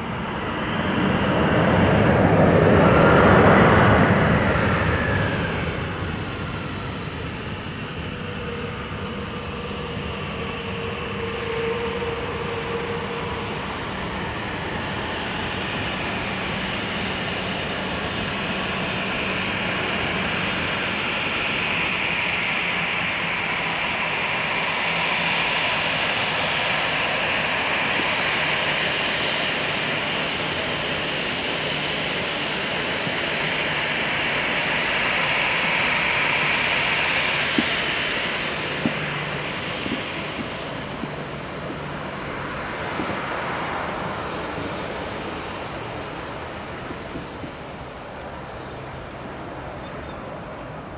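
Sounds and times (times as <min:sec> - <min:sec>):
jet engines hissing: 0:00.0 - 0:50.9.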